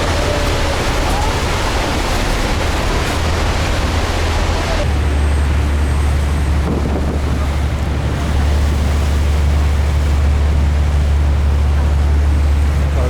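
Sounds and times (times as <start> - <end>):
boat engine drone: 0.0 - 13.0
rushing water and spray: 0.0 - 13.0
wind buffeting microphone: 0.0 - 13.0.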